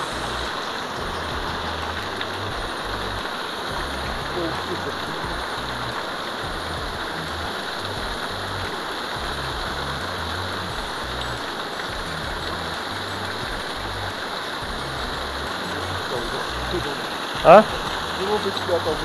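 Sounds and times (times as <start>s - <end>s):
background music bass line: 0.0s - 19.0s
flowing water rushing: 0.0s - 19.0s.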